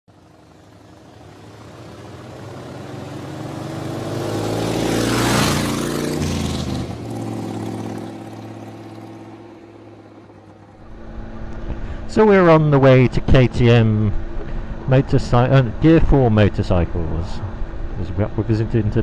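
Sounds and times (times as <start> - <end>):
vehicle engine passing by: 0.1 - 18.9.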